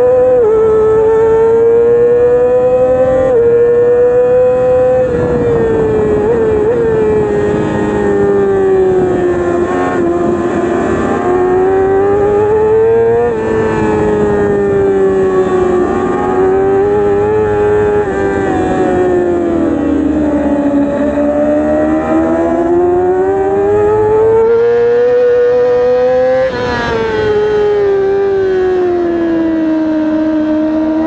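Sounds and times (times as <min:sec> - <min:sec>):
motorcycle engine revving high: 0:00.0 - 0:31.0.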